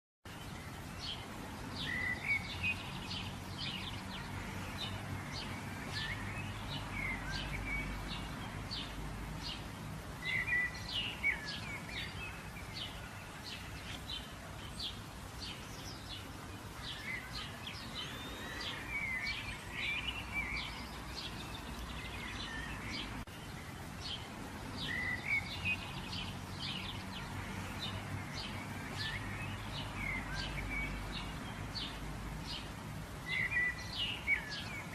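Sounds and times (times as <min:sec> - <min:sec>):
birds chirping: 0:00.3 - 0:34.9.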